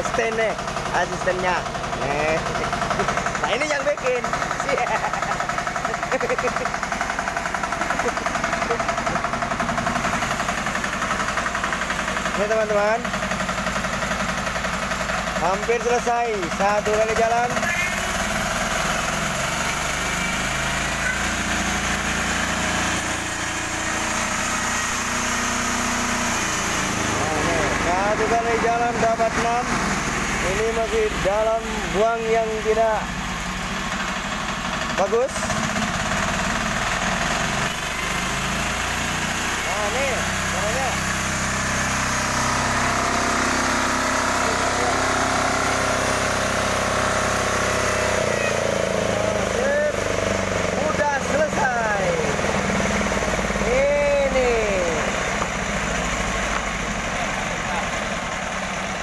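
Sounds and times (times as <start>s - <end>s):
band saw cutting log: 0.0s - 59.0s
sawmill engine running: 0.0s - 59.0s.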